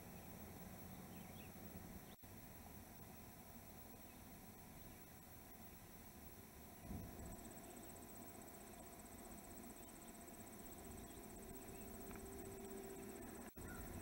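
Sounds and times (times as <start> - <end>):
faint outdoor ambience: 0.0 - 14.0
pulsing insect trill: 0.0 - 14.0.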